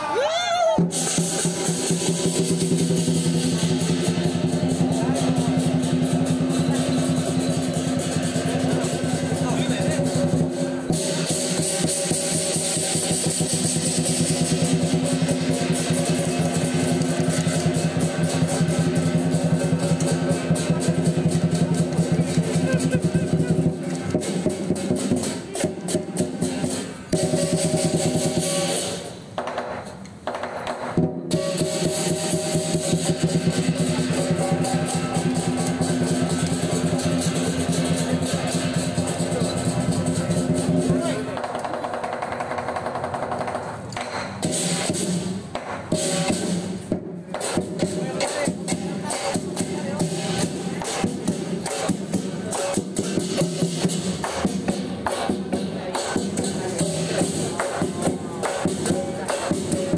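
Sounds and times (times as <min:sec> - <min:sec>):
cymbals clashing: 0:00.0 - 0:29.4, 0:30.9 - 0:59.9
big drum beating: 0:00.6 - 0:29.0, 0:30.7 - 0:43.7, 0:44.4 - 0:59.9.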